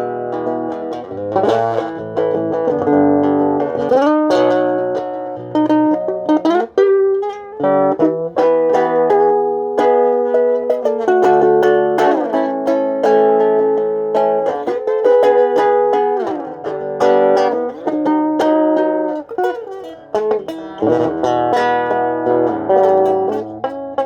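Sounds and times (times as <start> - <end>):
solo guitar with sliding notes: 0.0 - 24.0.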